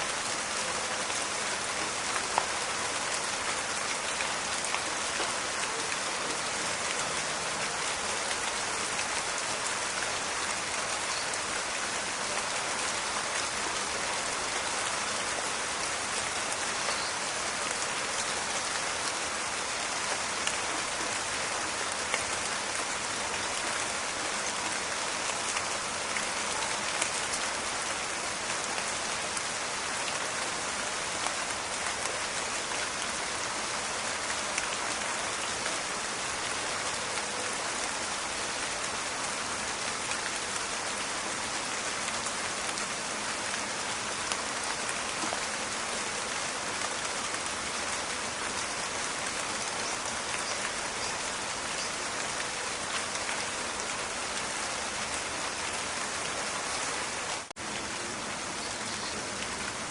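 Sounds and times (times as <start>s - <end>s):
rain in a forest: 0.0s - 59.9s.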